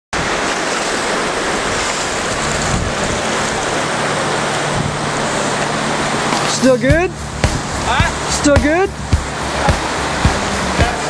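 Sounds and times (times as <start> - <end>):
river water rushing: 0.2 - 11.0.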